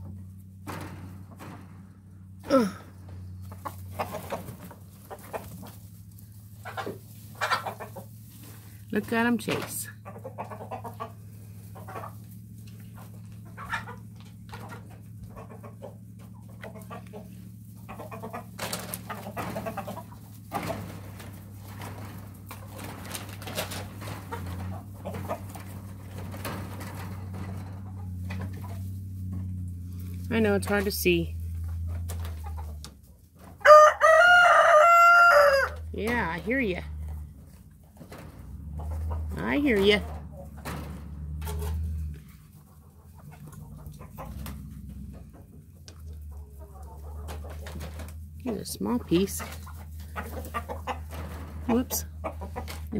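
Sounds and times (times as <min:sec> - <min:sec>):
steady low hum: 0:00.0 - 0:33.7, 0:35.6 - 0:52.9
chickens clucking and squawking: 0:00.0 - 0:52.9.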